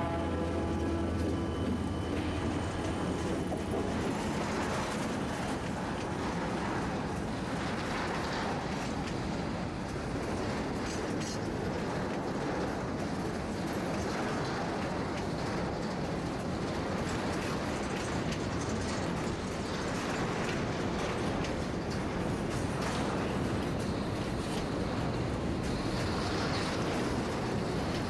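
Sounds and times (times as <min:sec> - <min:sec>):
diesel locomotive engine drone: 0:00.0 - 0:28.0
wagons rumbling over rails: 0:00.0 - 0:28.0.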